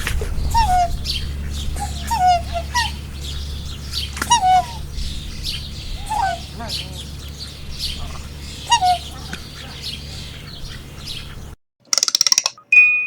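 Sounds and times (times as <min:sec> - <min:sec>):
low steady hum: 0:00.0 - 0:11.6
waterfowl calling: 0:00.0 - 0:11.6.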